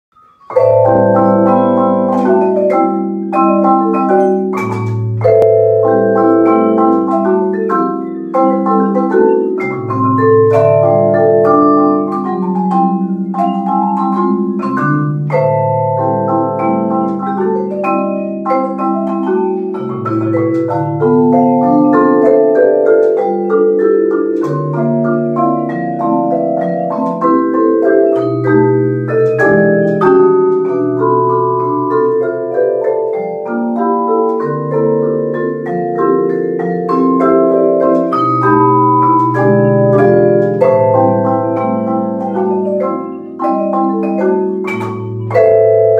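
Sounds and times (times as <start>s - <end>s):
vibraphone and marimba duet: 0.1s - 45.9s.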